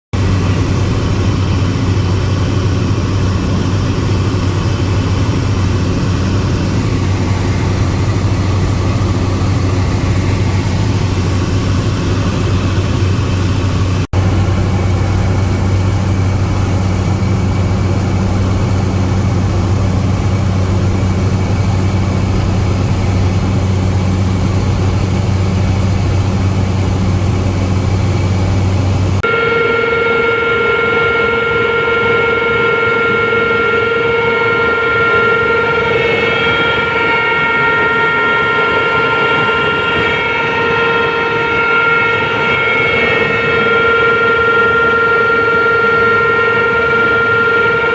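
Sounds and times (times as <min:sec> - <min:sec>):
helicopter turbine and rotor drone: 0:00.1 - 0:47.9.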